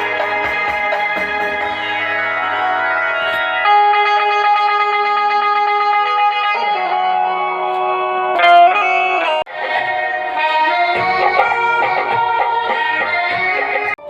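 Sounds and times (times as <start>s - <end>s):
instrumental music through loudspeaker: 0.0s - 14.0s.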